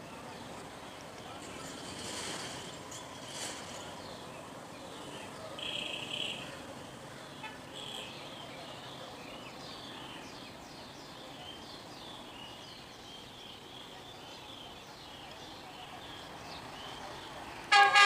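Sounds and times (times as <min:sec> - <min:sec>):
small birds chirping: 0:02.9 - 0:17.6.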